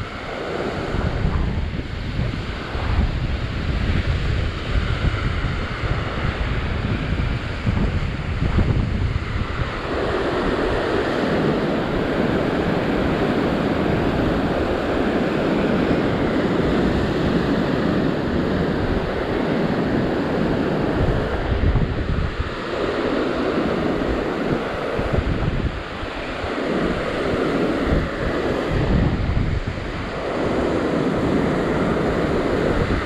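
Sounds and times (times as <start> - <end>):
ocean surf breaking on rocks: 0.0 - 33.0
wind buffeting microphone: 0.0 - 33.0.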